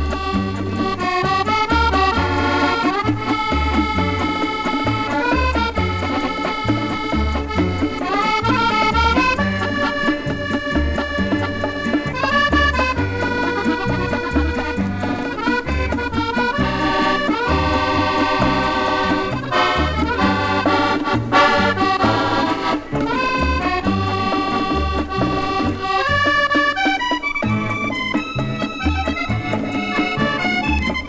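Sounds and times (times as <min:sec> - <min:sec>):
accordion ensemble melody: 0:00.0 - 0:31.0.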